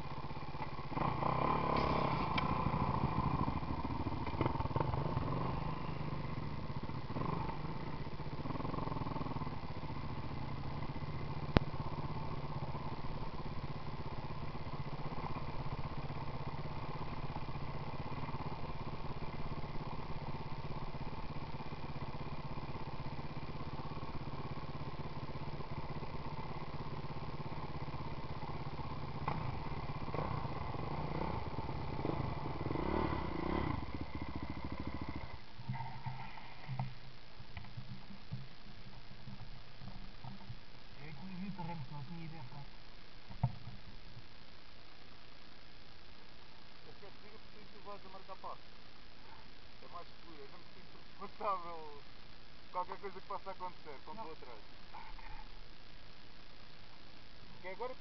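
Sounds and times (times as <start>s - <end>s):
dirt bike engine idling: 0.0s - 44.6s, 45.2s - 58.0s.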